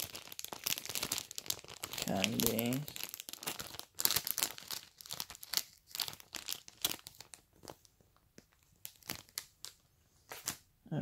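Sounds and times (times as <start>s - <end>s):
packaging crinkling and rustling: 0.0s - 10.7s.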